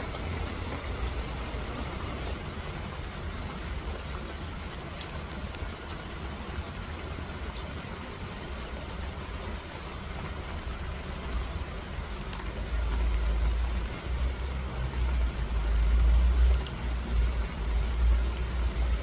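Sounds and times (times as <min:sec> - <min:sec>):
raindrop ticks: 0:00.0 - 0:19.0
steady rain: 0:00.0 - 0:19.0.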